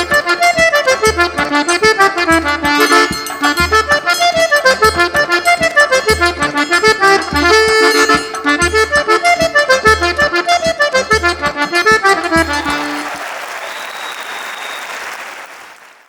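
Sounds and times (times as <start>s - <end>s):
accordion playing lively tune: 0.0s - 16.0s.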